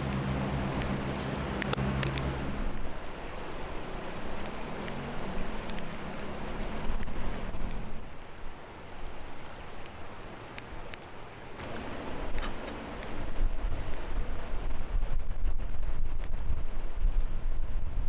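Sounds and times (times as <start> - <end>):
campfire crackles: 0.0 - 15.7
wind buffeting microphone: 0.0 - 18.0.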